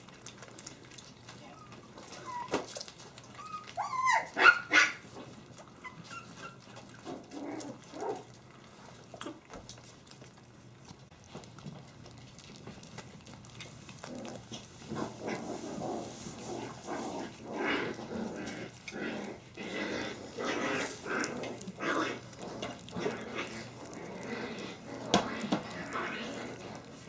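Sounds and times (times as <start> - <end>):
puppies eating: 0.0 - 27.0
small puppy sounds: 0.0 - 27.0.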